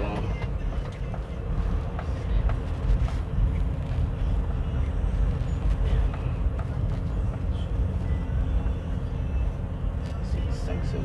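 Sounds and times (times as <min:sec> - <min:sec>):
low road rumble: 0:00.0 - 0:11.0.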